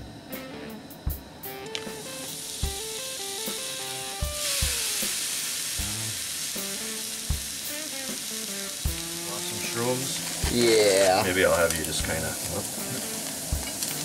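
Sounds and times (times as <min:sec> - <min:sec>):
music with a steady beat: 0:00.0 - 0:05.2, 0:05.8 - 0:10.6, 0:11.9 - 0:14.0
steak sizzling on a griddle: 0:01.7 - 0:14.0.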